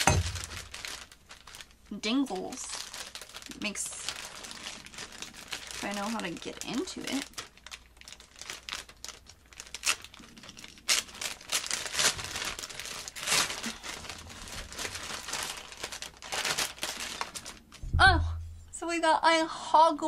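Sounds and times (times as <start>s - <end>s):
packaging crinkling and tearing: 0.0s - 17.8s.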